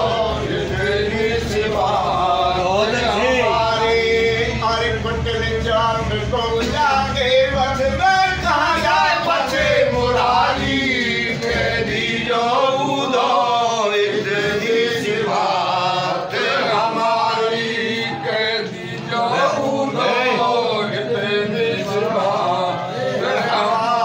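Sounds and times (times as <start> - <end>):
men singing devotional chant: 0.0 - 24.0
steady held drone note: 0.0 - 24.0.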